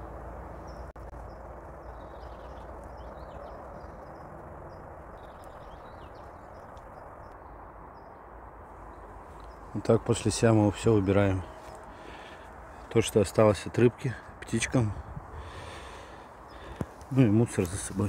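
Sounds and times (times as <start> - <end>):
background rush: 0.0 - 18.0
small birds chirping: 0.0 - 18.0.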